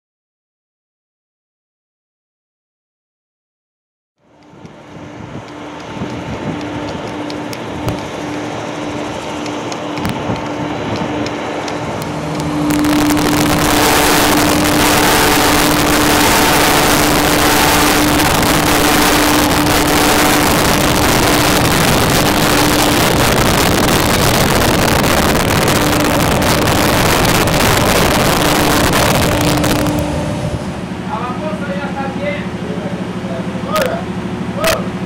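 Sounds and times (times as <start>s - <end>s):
machinery engine running: 4.2s - 35.0s.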